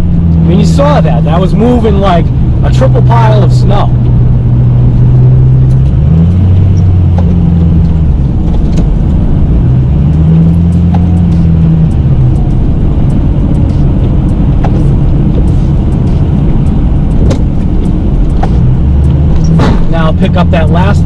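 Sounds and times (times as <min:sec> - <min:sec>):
truck engine running under load: 0:00.0 - 0:21.0.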